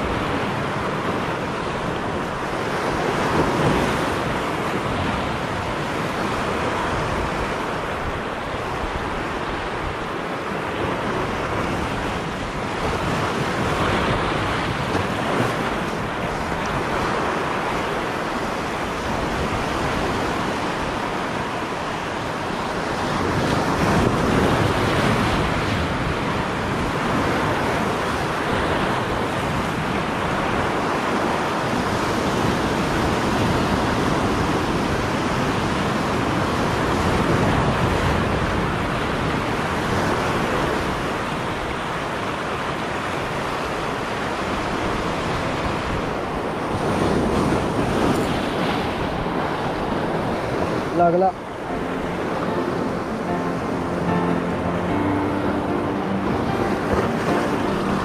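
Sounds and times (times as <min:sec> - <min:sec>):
waves breaking on rocks: 0:00.0 - 0:52.3
wind buffeting microphone: 0:00.0 - 0:52.6.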